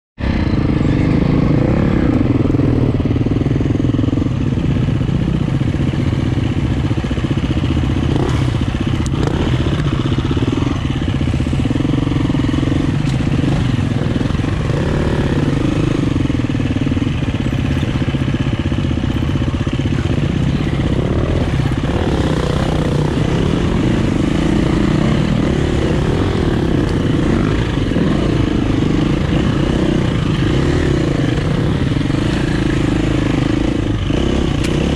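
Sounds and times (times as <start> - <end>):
dirt bike engine revving: 0.3 - 34.9.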